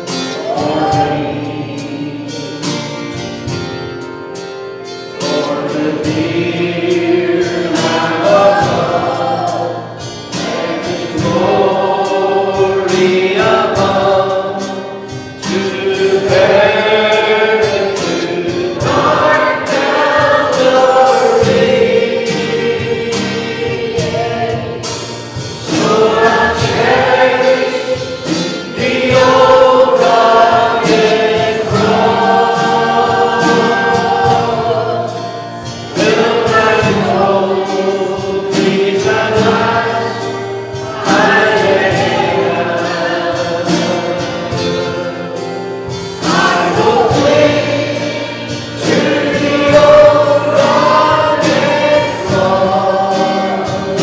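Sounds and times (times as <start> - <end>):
choir singing a hymn: 0.0 - 54.0
instrumental accompaniment: 0.0 - 54.0.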